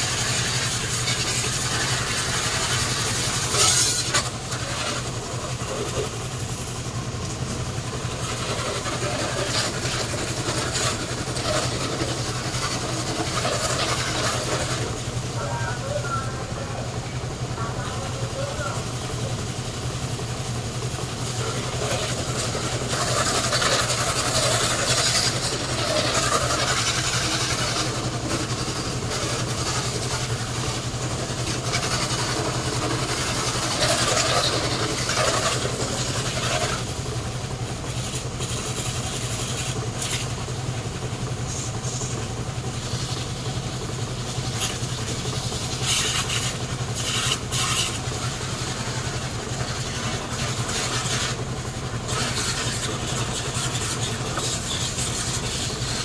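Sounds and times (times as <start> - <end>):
engine humming: 0.0 - 56.0
hose water spraying: 0.0 - 56.0.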